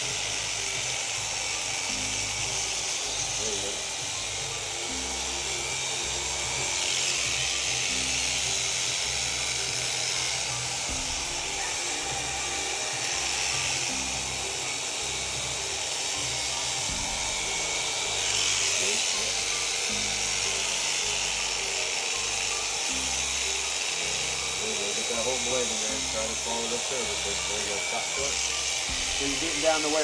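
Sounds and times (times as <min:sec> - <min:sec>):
background music: 0:00.0 - 0:30.0
electric shearing handpiece buzzing: 0:00.0 - 0:30.0.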